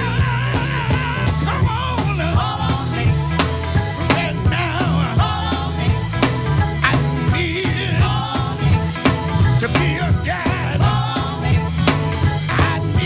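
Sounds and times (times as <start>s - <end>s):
drum kit beat: 0.0s - 13.0s
electric bass line: 0.0s - 13.0s.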